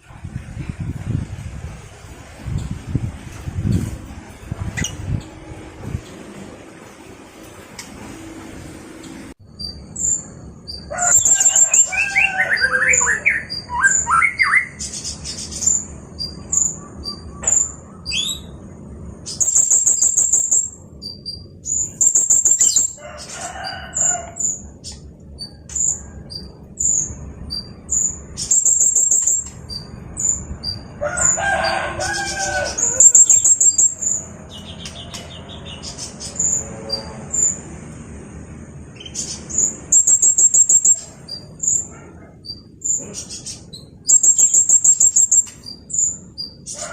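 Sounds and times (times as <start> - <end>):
parrot chirping and trilling: 3.7 - 6.1, 9.5 - 18.6, 19.2 - 37.7, 38.9 - 46.9.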